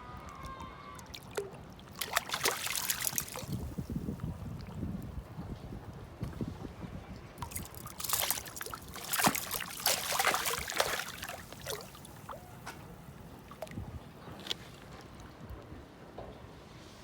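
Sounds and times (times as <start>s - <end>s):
water splashing and trickling: 0.5s - 6.6s, 7.2s - 15.4s.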